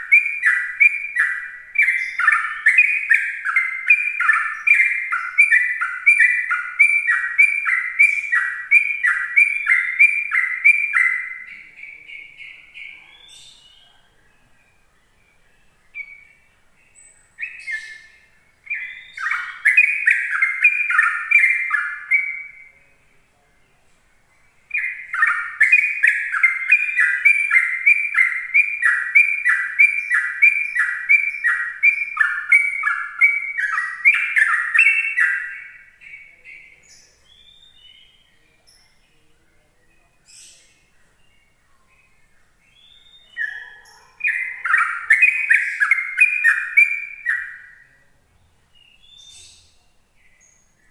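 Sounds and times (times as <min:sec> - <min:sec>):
bulbul singing chirping notes: 0:00.0 - 0:13.8, 0:14.8 - 0:23.1, 0:24.5 - 0:39.0, 0:41.4 - 0:48.0.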